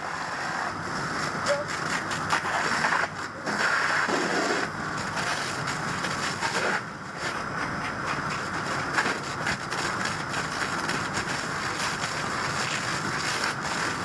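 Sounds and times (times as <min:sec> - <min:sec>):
fire hose spraying water: 0:00.0 - 0:14.0.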